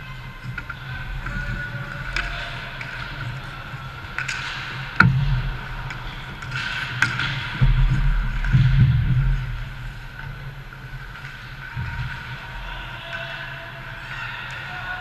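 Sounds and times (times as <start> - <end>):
hockey sticks and puck clacking: 0.1 - 15.0.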